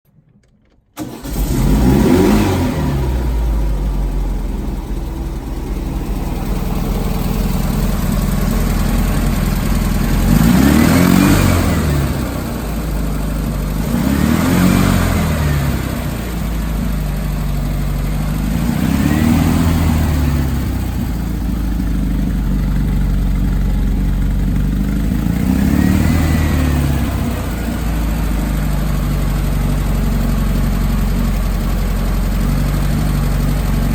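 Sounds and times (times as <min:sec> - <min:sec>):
car engine starting and revving: 0:01.0 - 0:33.9.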